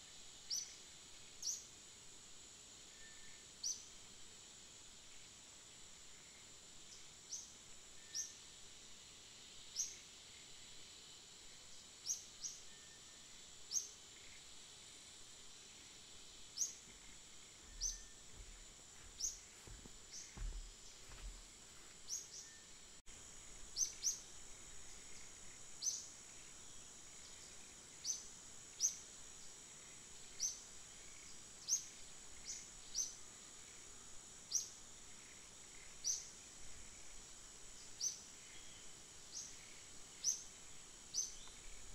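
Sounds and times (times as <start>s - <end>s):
insect drone: 0.0s - 41.9s.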